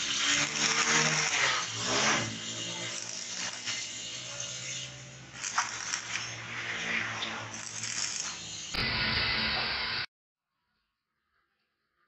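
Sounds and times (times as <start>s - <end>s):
welding arc crackling: 0.0s - 9.7s.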